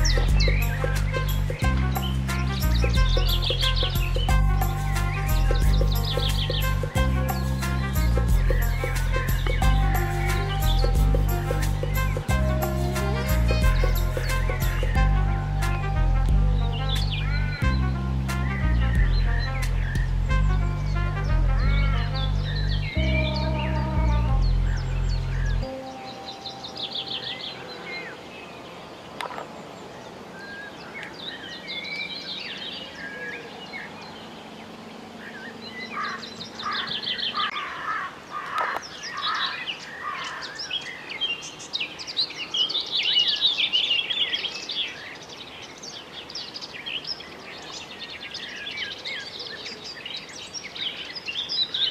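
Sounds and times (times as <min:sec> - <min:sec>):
songbirds singing and chirping: 0:00.0 - 0:51.9.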